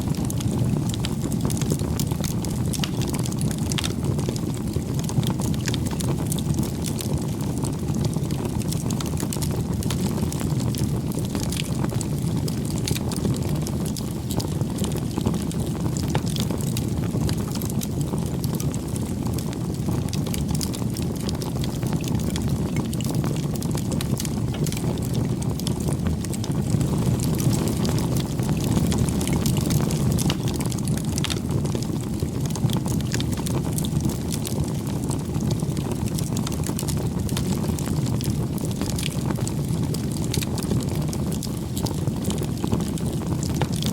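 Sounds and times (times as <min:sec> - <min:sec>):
campfire flames rumbling: 0:00.0 - 0:43.9
fire crackling and popping: 0:00.0 - 0:43.9.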